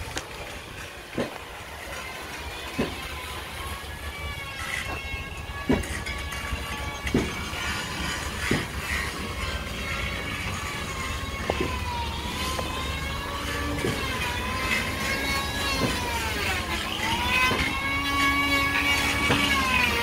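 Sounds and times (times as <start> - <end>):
low hum: 0.0 - 20.0
motor whining: 0.0 - 20.0.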